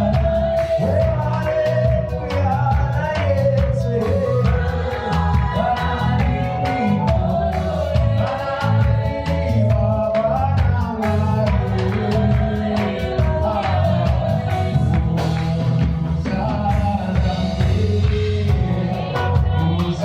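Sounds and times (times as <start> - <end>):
band with drums and bass: 0.0 - 20.0
voices singing: 0.0 - 20.0.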